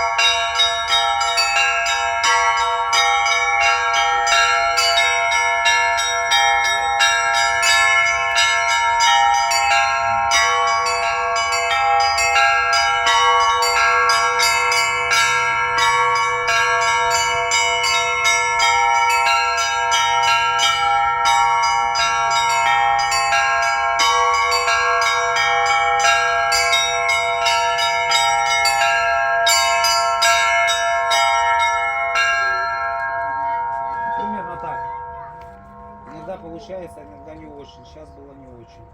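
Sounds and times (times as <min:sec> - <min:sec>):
bells ringing in fast run: 0:00.0 - 0:38.9.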